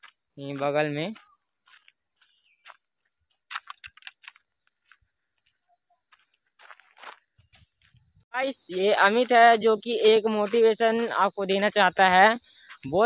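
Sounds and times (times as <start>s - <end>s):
insects high-pitched drone: 0.0s - 13.0s.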